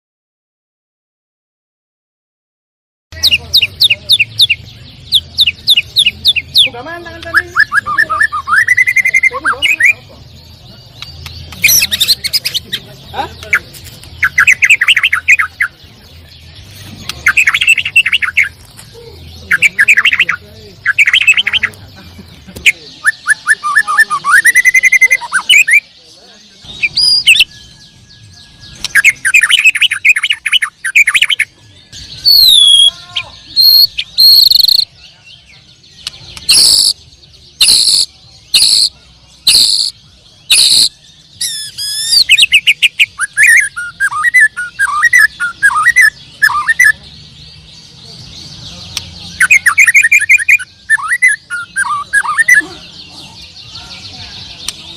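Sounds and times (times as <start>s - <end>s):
loud sharp bird notes: 3.1s - 54.9s
bird singing whistles and trills: 3.2s - 12.8s, 14.2s - 16.1s, 17.0s - 21.7s, 22.7s - 25.9s, 26.6s - 54.9s.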